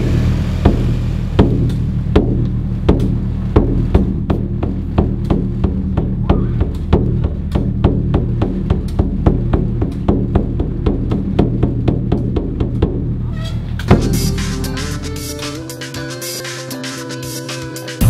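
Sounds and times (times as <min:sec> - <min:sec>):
drum hits: 0:00.0 - 0:16.0
held bass notes: 0:00.0 - 0:18.0.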